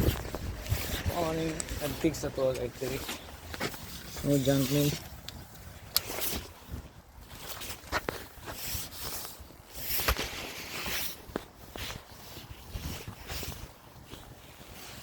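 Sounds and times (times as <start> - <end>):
footsteps: 0.0 - 15.0.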